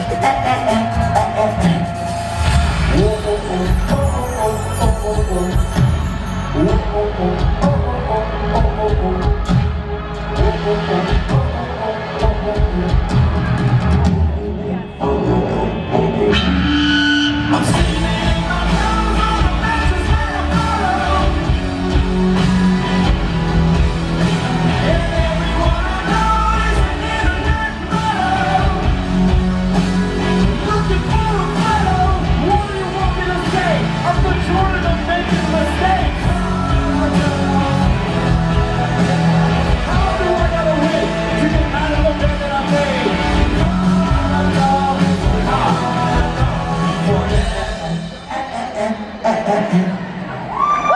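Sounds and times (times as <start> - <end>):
man singing: 0.0 - 2.2, 2.8 - 13.2, 14.3 - 22.4, 24.4 - 50.4
drum kit: 0.0 - 14.5, 17.5 - 48.3
electric guitars: 0.0 - 48.3.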